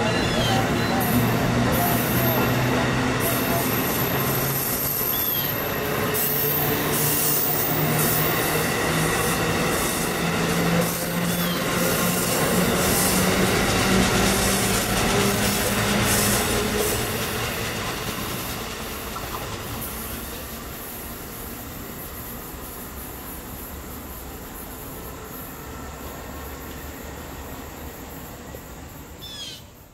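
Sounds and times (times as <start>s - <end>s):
train wheels rolling on rails: 0.0s - 29.2s.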